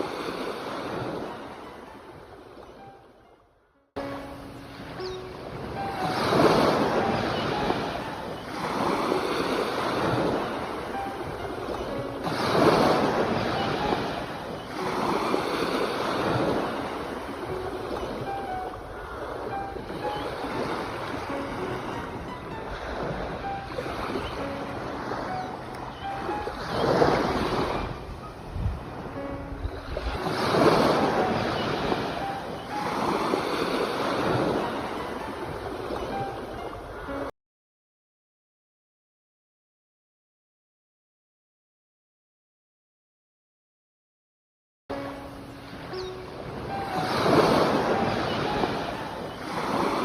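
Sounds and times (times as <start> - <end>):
ocean waves washing in: 0.0 - 3.2, 4.0 - 37.3, 44.9 - 50.0.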